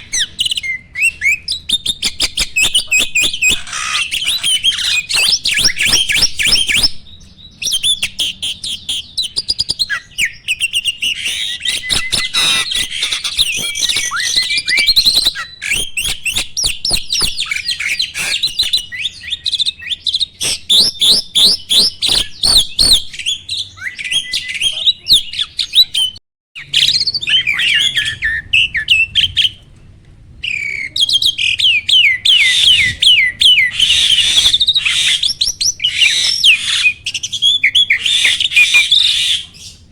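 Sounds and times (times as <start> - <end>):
songbird singing rapid song: 0.0 - 29.6, 30.4 - 39.9.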